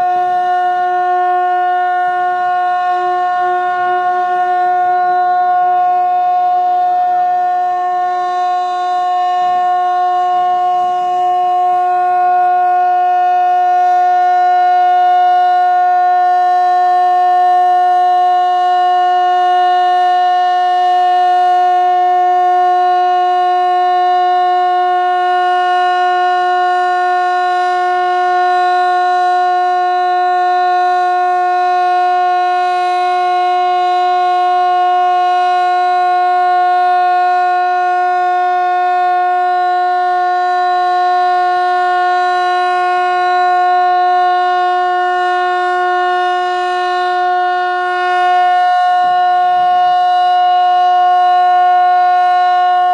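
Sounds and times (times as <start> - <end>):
fire alarm siren steady tone: 0.0 - 52.9.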